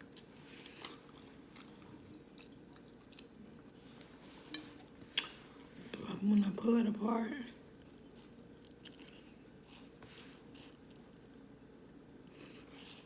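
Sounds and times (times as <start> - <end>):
close-up chewing: 0.0 - 6.0, 7.7 - 13.0.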